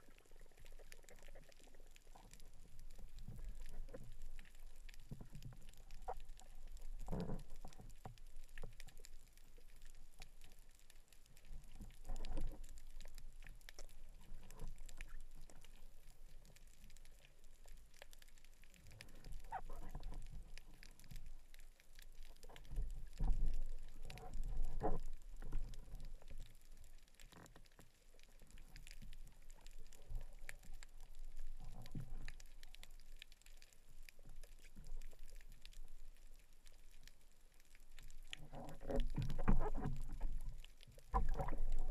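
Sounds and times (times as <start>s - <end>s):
low underwater rumbles: 0.0s - 41.9s
water swishing and bubbling: 0.0s - 41.9s.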